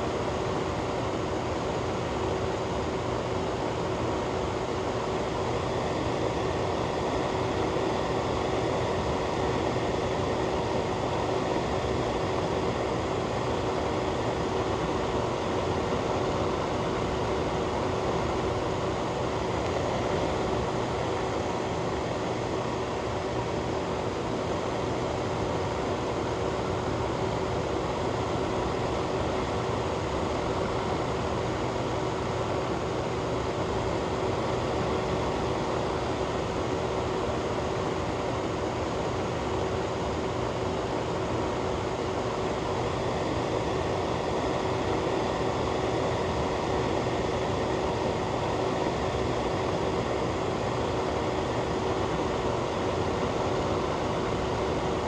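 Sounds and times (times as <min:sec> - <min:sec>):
fan rushing air: 0:00.0 - 0:55.0.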